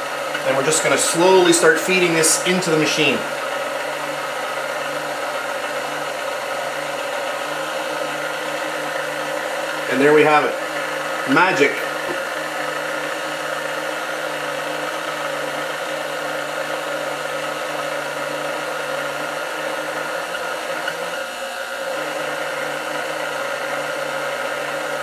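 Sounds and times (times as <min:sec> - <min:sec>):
stand mixer motor running: 0:00.0 - 0:25.0.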